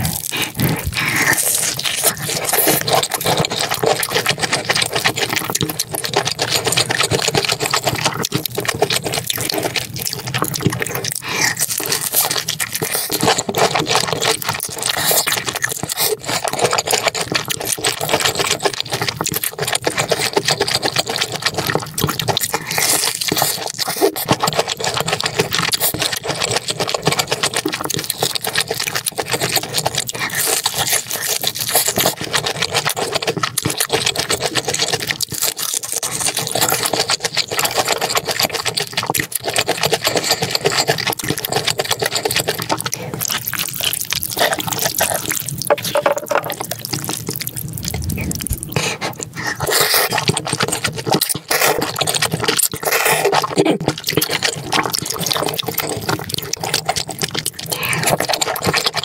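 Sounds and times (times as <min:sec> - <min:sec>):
chewing crispy food: 0:00.0 - 0:59.0.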